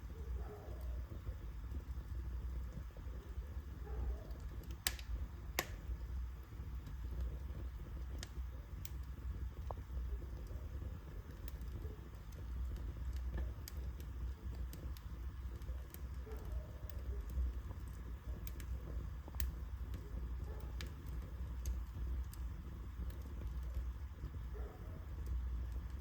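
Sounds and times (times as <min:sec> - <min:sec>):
low fire rumble: 0:00.0 - 0:26.0
wood fire crackling and popping: 0:00.0 - 0:26.0.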